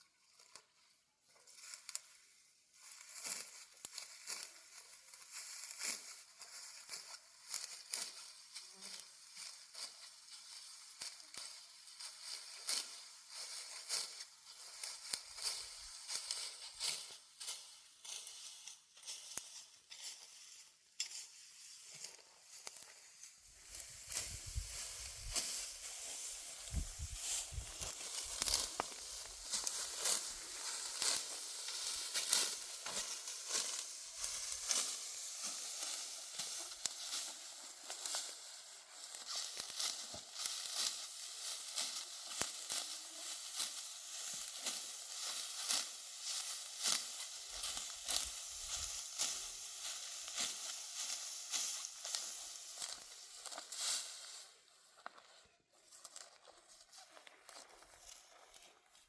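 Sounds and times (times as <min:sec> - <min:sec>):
dry wheat stalks crackling: 0:00.1 - 0:59.0.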